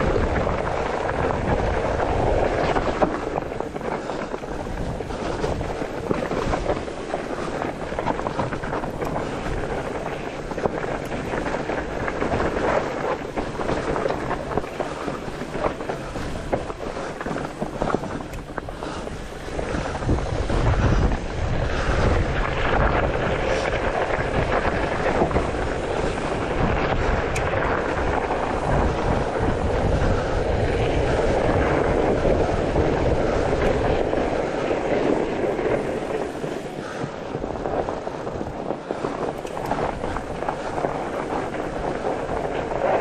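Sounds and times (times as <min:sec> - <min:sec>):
bike rattling over bumps: 0:00.0 - 0:43.0
bike tyres on dirt: 0:00.0 - 0:43.0
wind buffeting microphone: 0:00.0 - 0:43.0.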